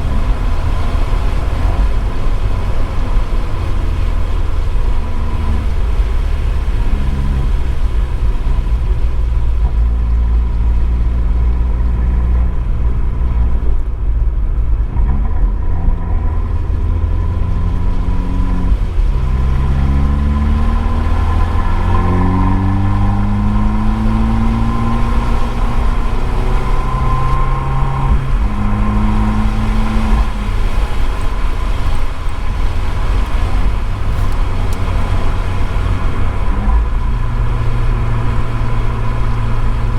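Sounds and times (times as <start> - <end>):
car engine accelerating: 0.0 - 39.9
road and rain noise: 0.0 - 39.9.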